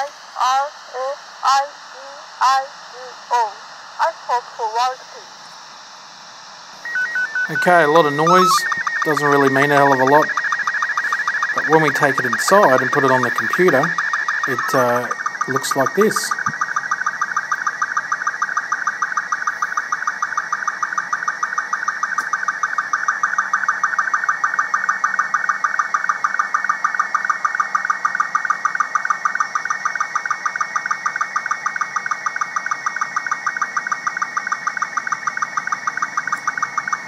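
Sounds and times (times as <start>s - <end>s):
regular scan line pulse: 0.0s - 37.0s
warbling signal tones: 6.7s - 37.0s.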